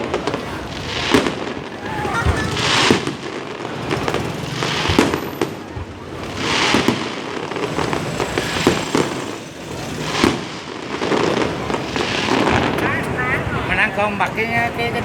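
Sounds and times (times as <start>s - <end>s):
fireworks banging: 0.0s - 15.0s
fireworks crackling: 0.0s - 15.0s.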